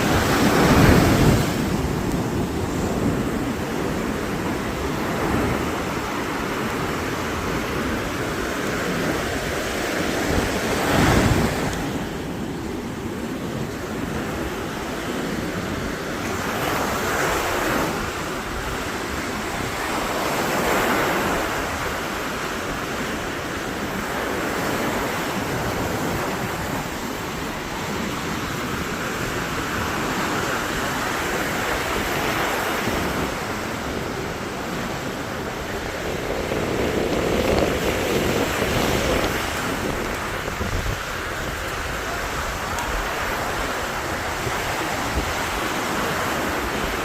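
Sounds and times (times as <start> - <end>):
waves breaking on beach: 0.0 - 47.0.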